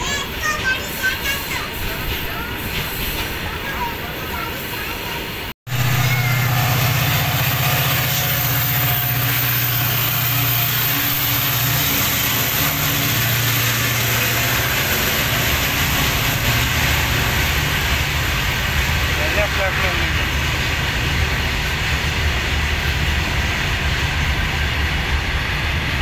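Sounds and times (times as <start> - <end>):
diesel locomotive engine drone: 0.0 - 26.0
freight wagons rolling on rails: 0.0 - 26.0.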